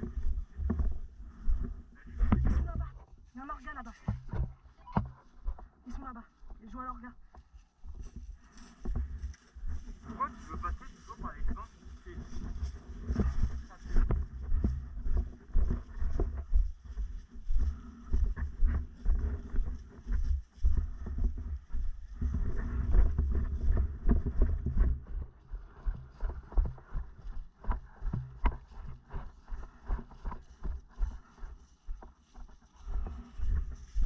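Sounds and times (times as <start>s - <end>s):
footsteps: 0.0s - 34.0s.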